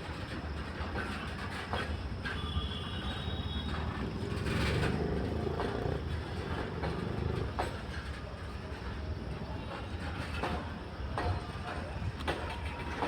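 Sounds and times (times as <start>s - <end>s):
wheels clacking on rail joints: 0.0s - 13.0s
freight train rumbling past: 0.4s - 13.0s.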